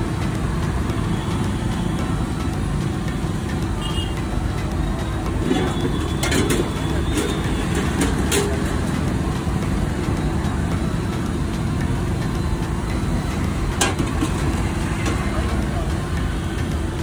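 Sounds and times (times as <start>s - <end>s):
sharp clicks and clatters: 0.0s - 17.0s
street traffic rumble: 0.0s - 17.0s.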